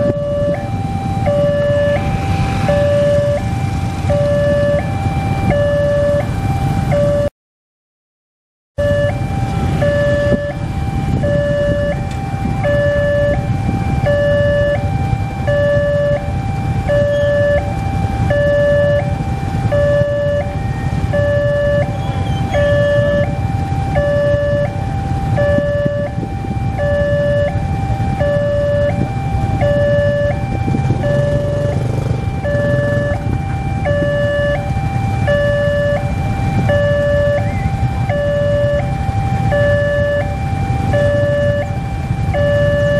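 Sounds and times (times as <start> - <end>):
motorcycle engines idling: 0.0 - 7.3, 8.8 - 42.9
two-tone crossing alarm: 0.0 - 7.3, 8.8 - 42.9.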